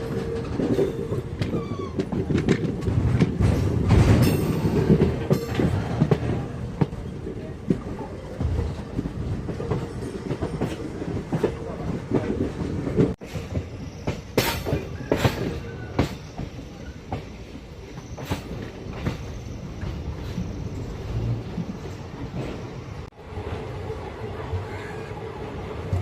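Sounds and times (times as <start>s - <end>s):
train wheels clacking on rails: 0.0s - 22.8s
train rumble: 0.0s - 26.0s.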